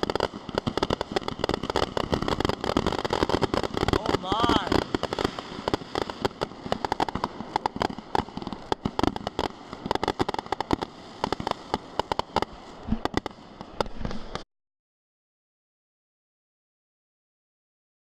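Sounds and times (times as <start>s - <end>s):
fireworks bangs and crackles: 0.0s - 14.4s.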